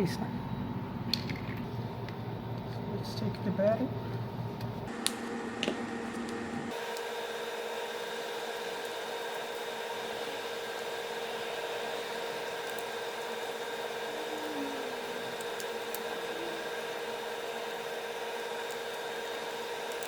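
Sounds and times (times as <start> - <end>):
machine hum and hiss: 0.0 - 20.0.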